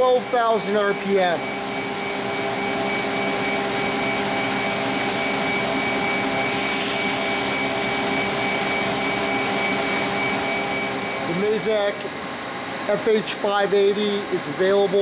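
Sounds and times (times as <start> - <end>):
machine spindle whine: 0.0 - 15.0.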